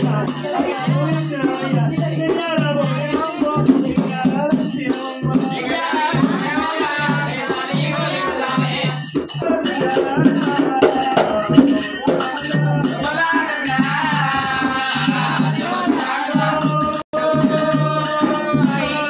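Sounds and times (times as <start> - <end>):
barrel drum beats: 0.0 - 19.0
person singing: 0.0 - 19.0.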